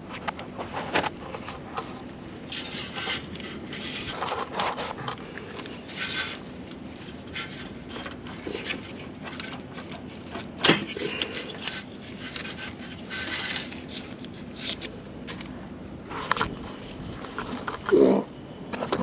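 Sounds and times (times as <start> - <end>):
faint steady hum: 0.0 - 19.0
scraping and clicking: 0.1 - 18.0.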